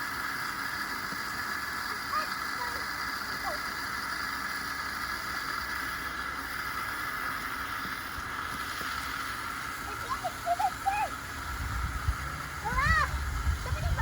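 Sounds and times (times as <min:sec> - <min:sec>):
outdoor background hiss and rumble: 0:00.0 - 0:14.0.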